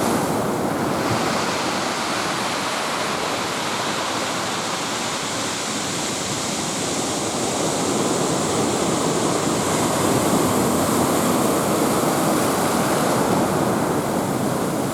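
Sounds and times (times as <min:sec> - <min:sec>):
heavy surf breaking: 0:00.0 - 0:14.9.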